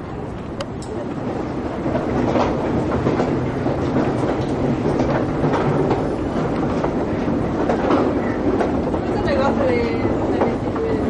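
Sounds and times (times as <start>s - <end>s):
wooden escalator rattling: 0.9s - 11.0s.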